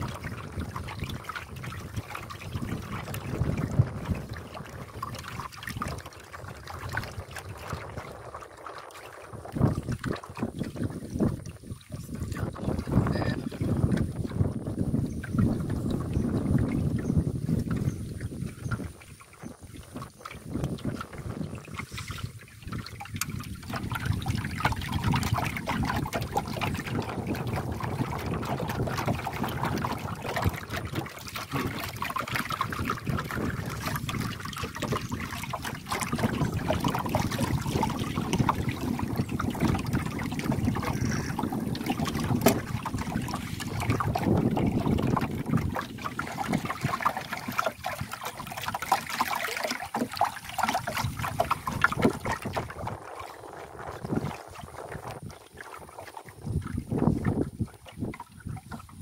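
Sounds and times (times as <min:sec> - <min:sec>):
water lapping against boat hull: 0:00.0 - 0:59.0
wind on microphone: 0:00.0 - 0:59.0.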